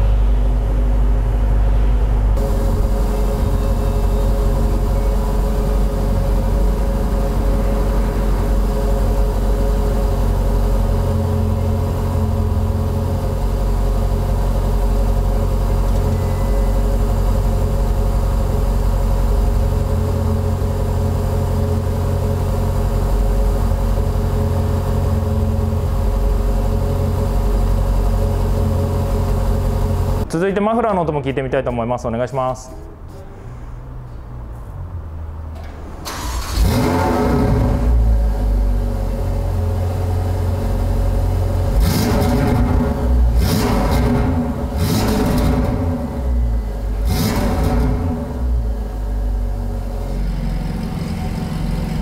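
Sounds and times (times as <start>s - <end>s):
car engine idling: 0.0s - 30.3s, 35.6s - 52.0s.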